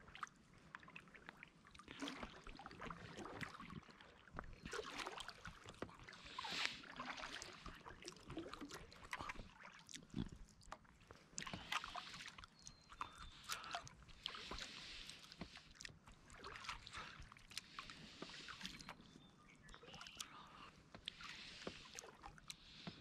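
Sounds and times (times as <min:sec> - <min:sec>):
kayak paddle pulling through water: 0:00.0 - 0:23.0
water drips: 0:00.1 - 0:23.0
water splashing: 0:01.7 - 0:18.9, 0:21.0 - 0:23.0.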